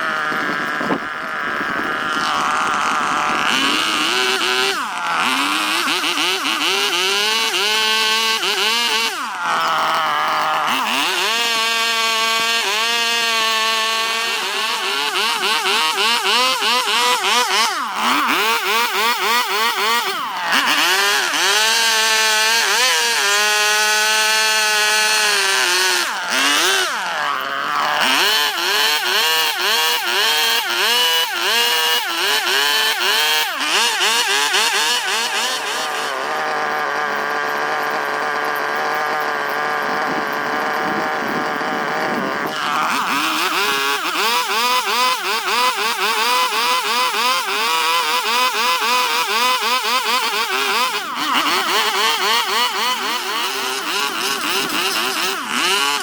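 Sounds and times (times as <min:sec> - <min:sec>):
rotary tool whining cutting wood: 0:00.0 - 0:56.0.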